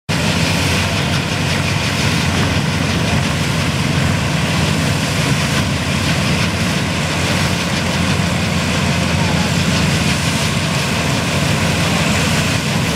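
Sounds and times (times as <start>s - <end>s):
combine harvester droning: 0.1s - 12.9s.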